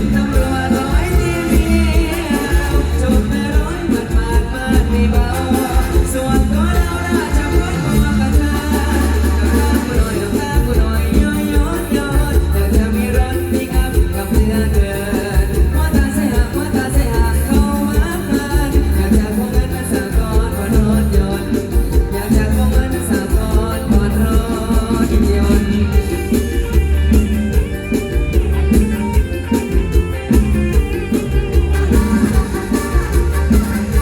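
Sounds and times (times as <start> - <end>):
band music: 0.0 - 34.0
heavy bass drum beat: 0.0 - 34.0
person singing: 0.0 - 34.0.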